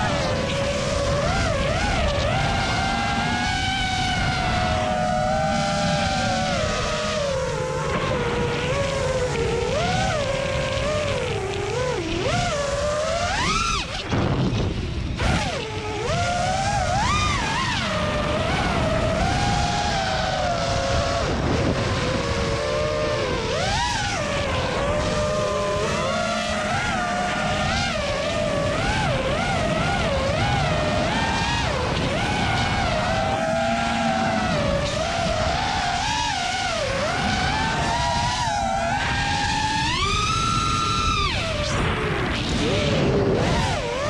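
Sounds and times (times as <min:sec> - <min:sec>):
quadcopter motors whining: 0:00.0 - 0:44.0
wind on microphone: 0:00.0 - 0:44.0.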